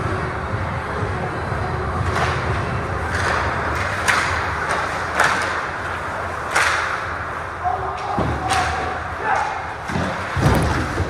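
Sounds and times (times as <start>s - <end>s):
low arena rumble: 0.0s - 11.0s
skates sticks and puck on ice: 2.0s - 11.0s.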